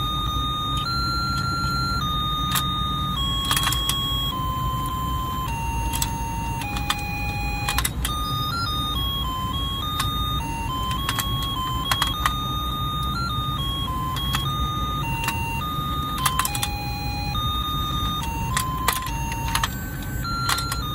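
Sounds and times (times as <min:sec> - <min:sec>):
beeping electronic tune: 0:00.0 - 0:20.9.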